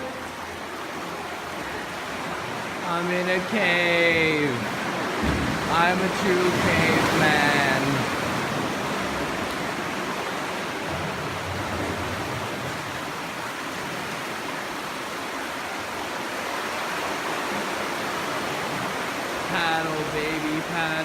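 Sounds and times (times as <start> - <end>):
seawater surging in a cave: 0.0 - 21.0.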